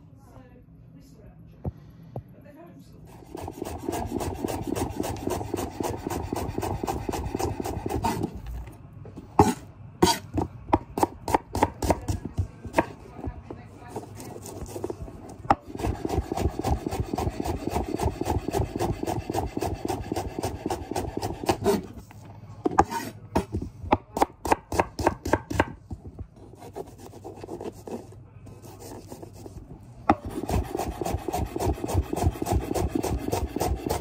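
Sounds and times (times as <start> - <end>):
knife chopping on wooden board: 3.1 - 8.4, 9.4 - 14.9, 15.5 - 21.9, 22.7 - 27.9, 28.7 - 34.0.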